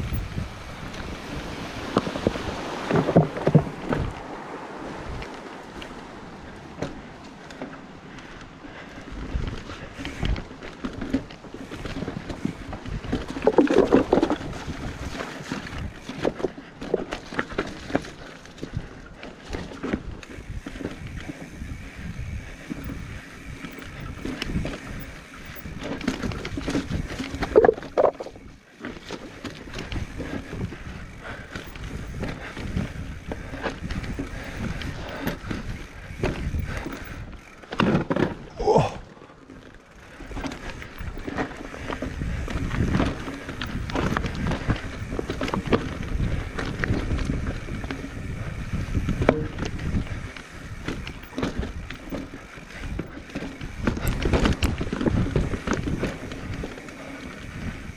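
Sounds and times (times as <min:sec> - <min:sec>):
mountain bike rattling over rocks: 0:00.0 - 0:57.9.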